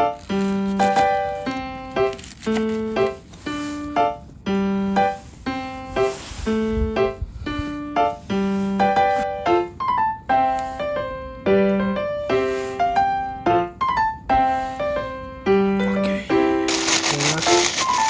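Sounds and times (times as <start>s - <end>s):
light piano tune: 0.0s - 18.0s.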